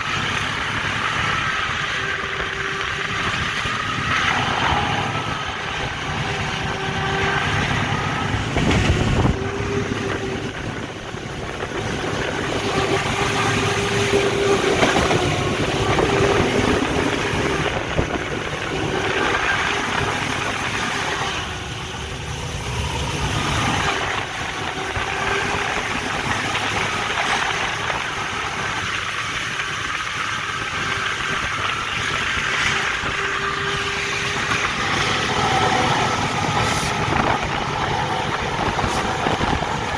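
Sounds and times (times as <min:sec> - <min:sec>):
diesel locomotive running: 0:00.0 - 0:39.9.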